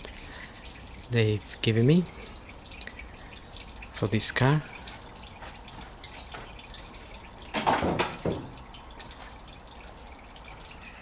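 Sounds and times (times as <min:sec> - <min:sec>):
oil dripping into a drain pan: 0:00.0 - 0:11.0.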